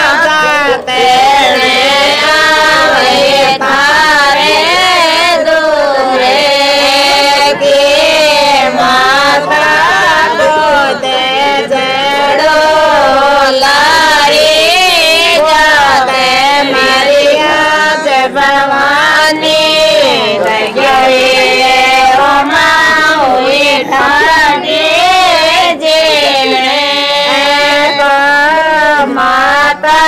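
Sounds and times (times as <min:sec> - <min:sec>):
woman singing devotional song: 0:00.0 - 0:30.0.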